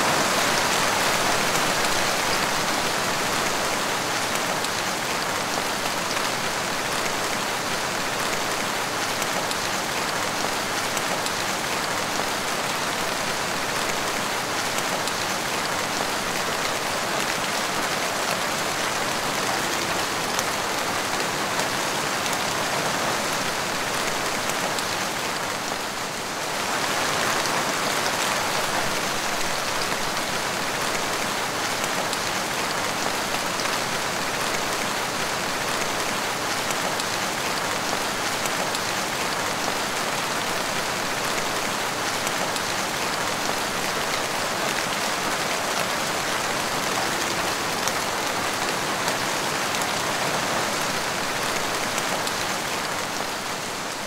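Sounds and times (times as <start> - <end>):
rain splashing on tiled floor: 0.0 - 54.0.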